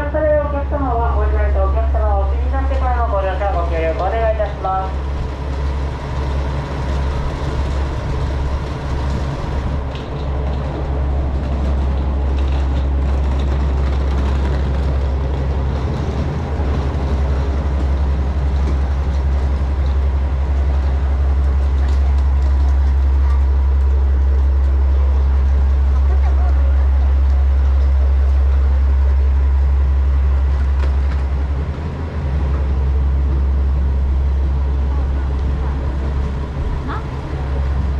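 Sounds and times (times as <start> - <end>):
diesel railcar engine idling: 0.0 - 37.9.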